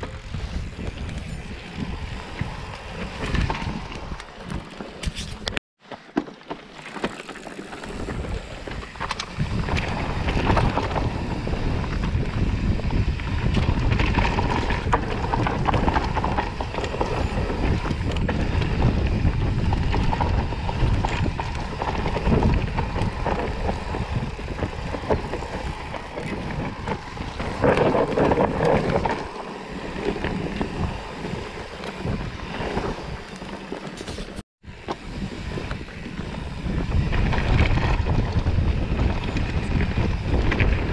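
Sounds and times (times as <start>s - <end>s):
wind rushing over microphone: 0.0s - 5.6s, 7.8s - 40.9s
bike rattling and knocking: 0.0s - 40.9s
bike tyre noise: 0.0s - 40.9s.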